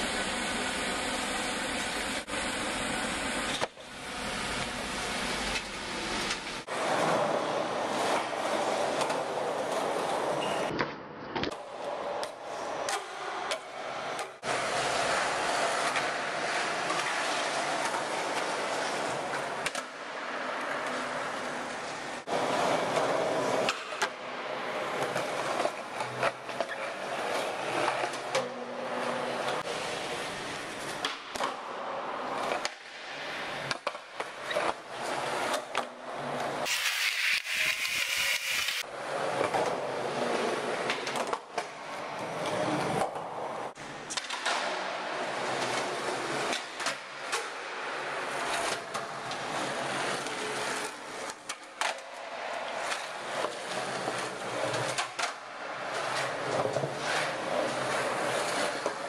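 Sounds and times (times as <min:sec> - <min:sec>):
skateboard wheels rolling on concrete: 0:00.0 - 0:10.7, 0:11.5 - 0:59.0.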